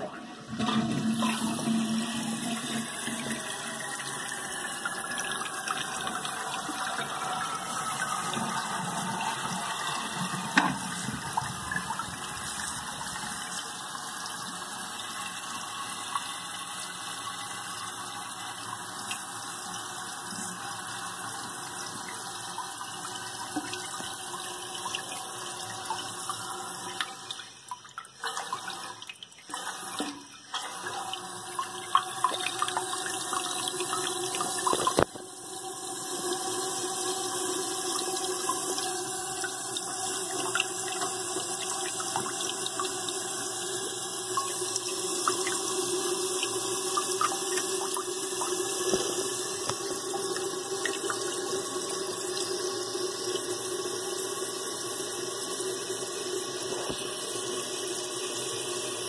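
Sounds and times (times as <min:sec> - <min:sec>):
toilet tank refilling: 0:00.0 - 0:59.0.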